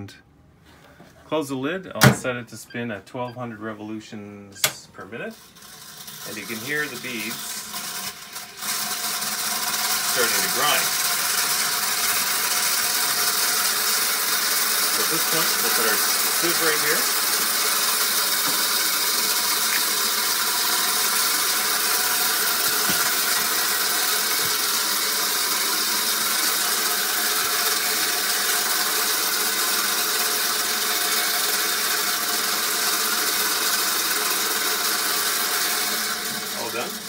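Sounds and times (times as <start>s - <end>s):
mixer high-pitched rushing grind: 5.2s - 37.0s.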